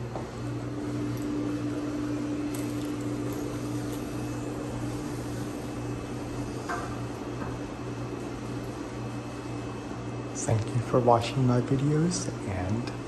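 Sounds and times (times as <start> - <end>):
elevator hum: 0.0 - 13.0.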